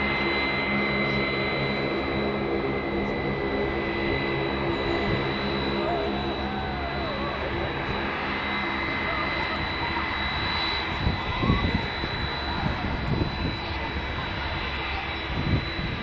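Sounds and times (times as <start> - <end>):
jet engines whining at taxi: 0.0 - 16.0.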